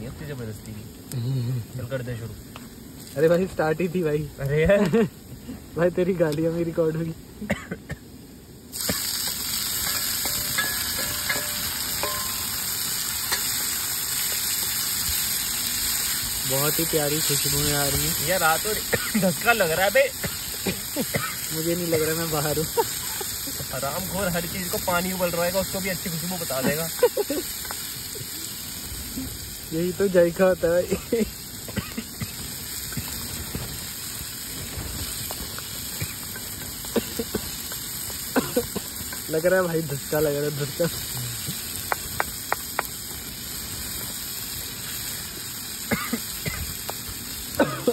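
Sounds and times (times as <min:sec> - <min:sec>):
onions sizzling in oil: 0:00.0 - 0:47.9.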